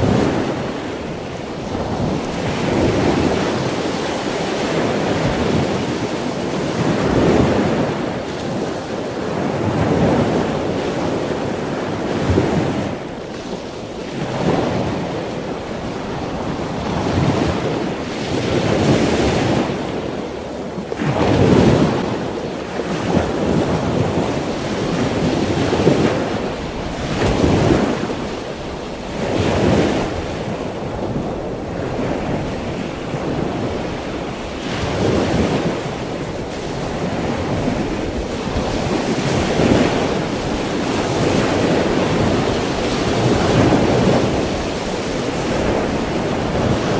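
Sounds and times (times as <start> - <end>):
ocean waves breaking: 0.0 - 46.9.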